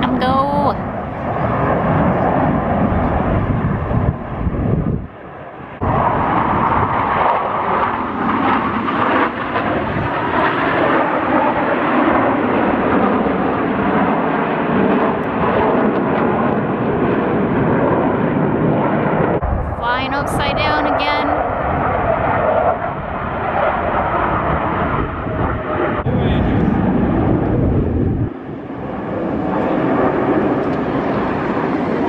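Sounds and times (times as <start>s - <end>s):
jet engines overhead: 0.0s - 32.0s.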